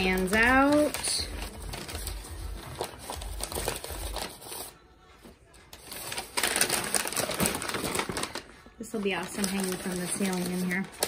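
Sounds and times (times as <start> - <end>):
paper bags rustling and crinkling: 0.0 - 11.0.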